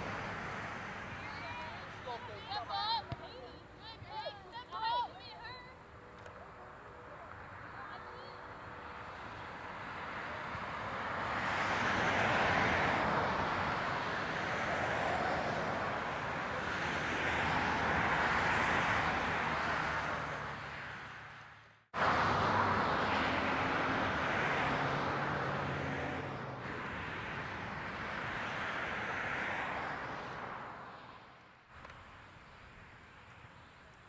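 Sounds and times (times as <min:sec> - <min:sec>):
rushing outdoor noise: 0:00.0 - 0:34.0.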